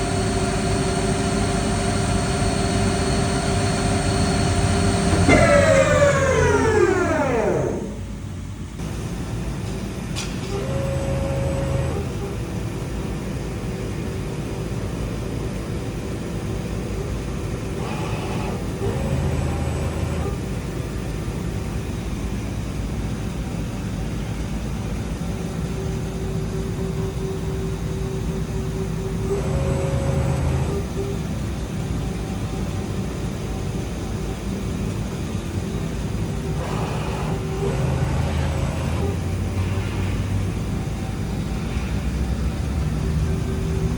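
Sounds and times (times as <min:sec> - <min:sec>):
lathe mechanical hum: 0:00.0 - 0:43.9.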